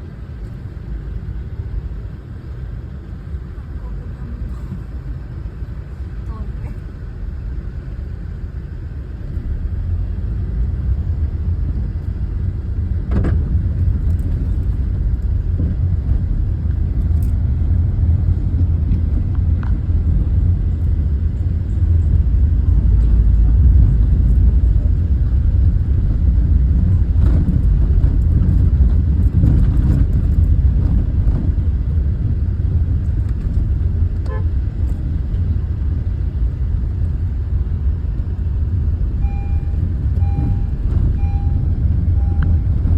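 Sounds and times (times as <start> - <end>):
tractor engines rumbling: 0.0 - 42.9.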